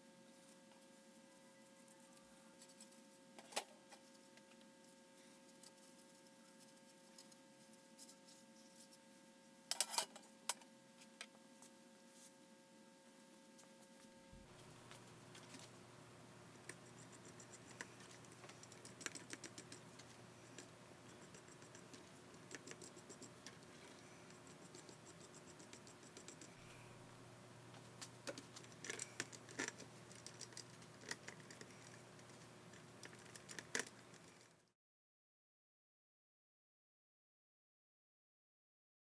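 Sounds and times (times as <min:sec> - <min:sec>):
faint steady hum: 0:00.0 - 0:34.7.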